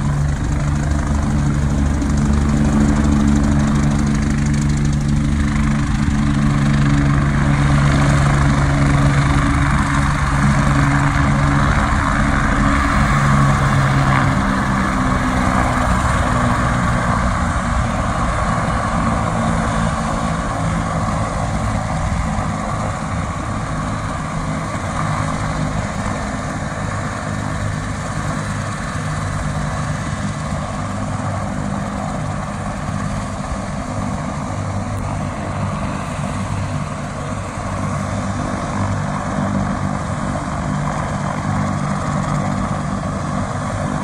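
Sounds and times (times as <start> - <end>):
helicopter idling: 0.0 - 44.0.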